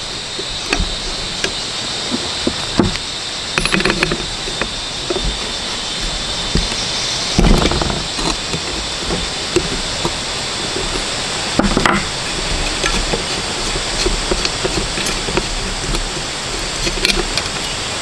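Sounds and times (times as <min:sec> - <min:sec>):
small metal clinks: 0:00.0 - 0:18.0.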